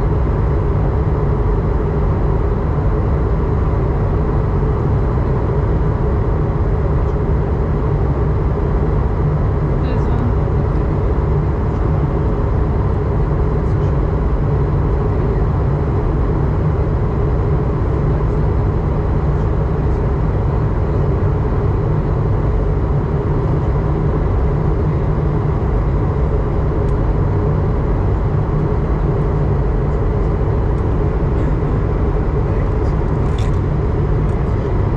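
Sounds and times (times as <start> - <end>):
airliner cabin drone: 0.0 - 34.9.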